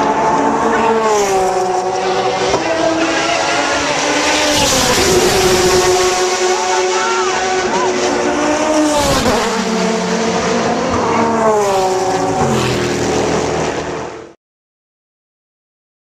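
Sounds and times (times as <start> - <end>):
race car engines at high revs: 0.0 - 14.4.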